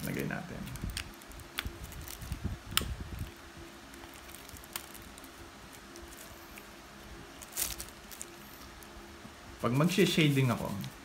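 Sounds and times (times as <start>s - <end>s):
gloved hands handling noise: 0.0s - 8.9s
faint steady hum: 0.0s - 11.0s.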